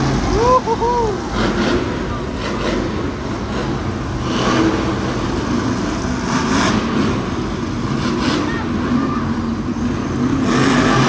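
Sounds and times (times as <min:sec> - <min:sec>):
loud vehicle engine noise: 0:00.0 - 0:11.0.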